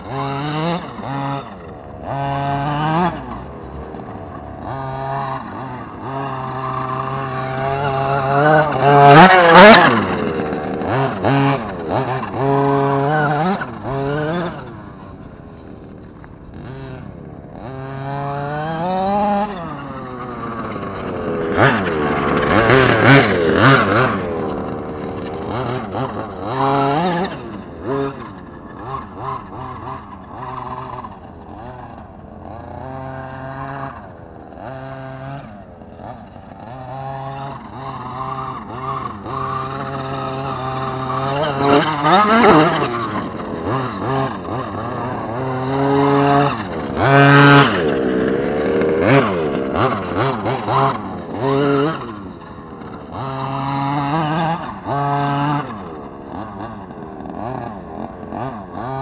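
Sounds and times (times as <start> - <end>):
toy truck engine revving: 0.0 - 59.0.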